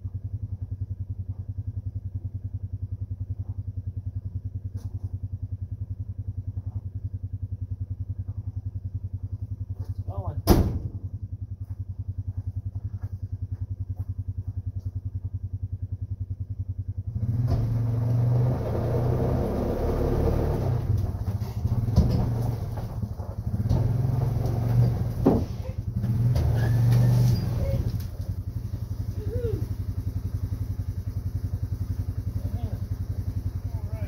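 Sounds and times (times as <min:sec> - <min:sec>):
vehicle engine idling and revving: 0:00.0 - 0:34.0.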